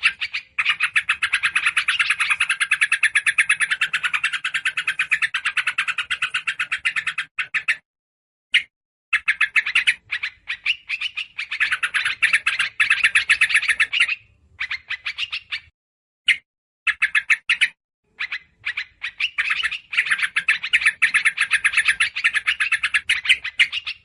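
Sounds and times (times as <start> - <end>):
bird scolding chatter: 0.0 - 7.8, 9.2 - 15.7, 16.9 - 24.0.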